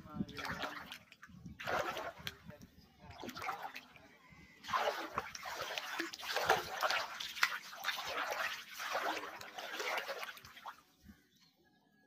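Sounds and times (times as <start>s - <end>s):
water splashing against boat hull: 0.0s - 10.8s.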